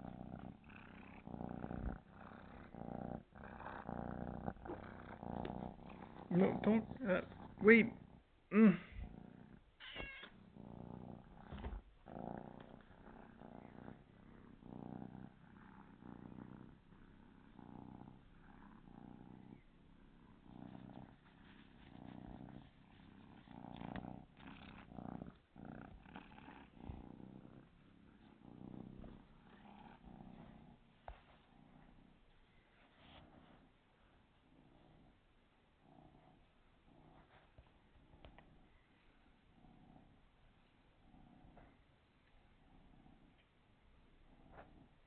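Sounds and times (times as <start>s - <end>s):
kitten purring: 0.0s - 45.0s.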